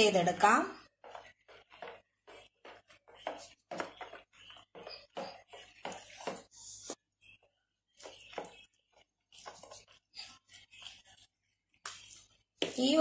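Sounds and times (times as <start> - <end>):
dough squishing: 0.7 - 13.0.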